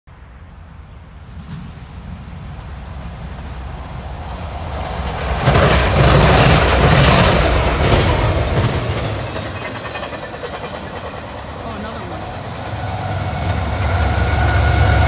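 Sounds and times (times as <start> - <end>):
freight train rushing past: 0.1 - 15.0.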